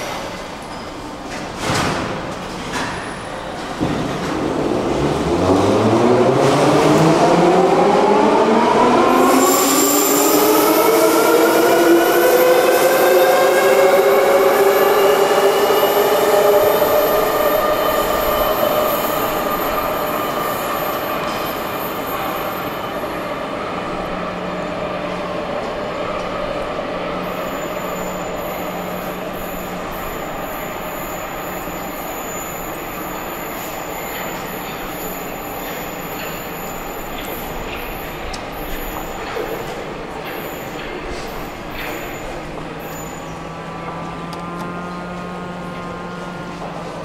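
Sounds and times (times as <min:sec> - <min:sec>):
metro train motors whining: 0:03.3 - 0:47.0.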